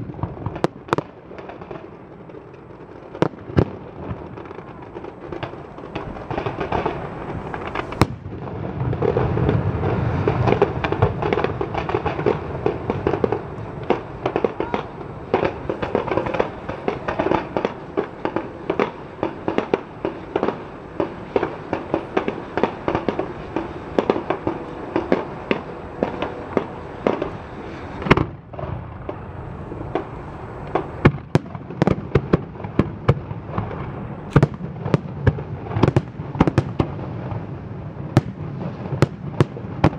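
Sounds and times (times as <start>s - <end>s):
fireworks bangs and crackling: 0.0s - 39.9s
loud firework crack: 0.0s - 39.9s.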